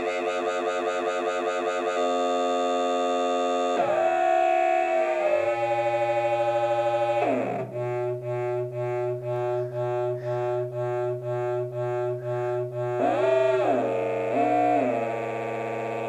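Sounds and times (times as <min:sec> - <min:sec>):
electronic sine test tones: 0:00.0 - 0:16.0.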